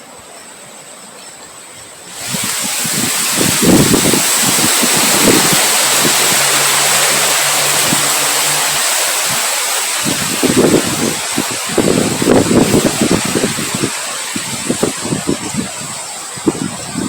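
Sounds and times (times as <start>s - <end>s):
heavy rain: 1.4s - 17.0s
wind gusts rumbling: 2.1s - 17.0s.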